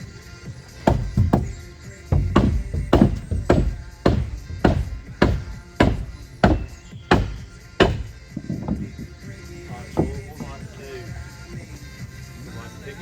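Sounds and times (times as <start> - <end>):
music with steady beat: 0.7 - 11.2.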